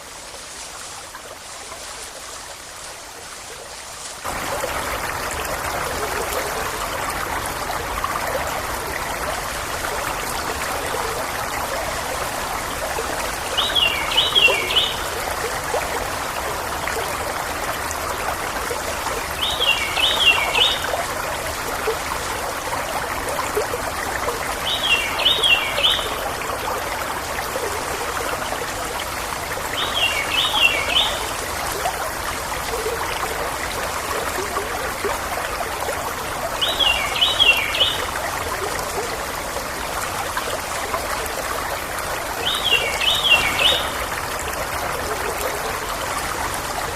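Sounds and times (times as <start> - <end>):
river water babbling: 0.0 - 46.9.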